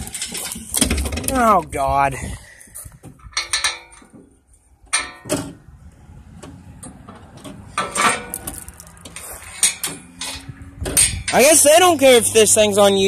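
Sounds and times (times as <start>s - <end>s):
metal trailer latch clanking: 0.0s - 1.8s, 3.0s - 11.8s.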